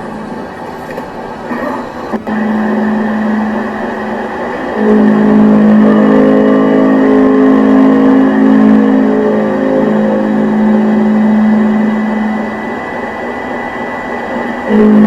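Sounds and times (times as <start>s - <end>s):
electronic chord: 2.2s - 15.0s.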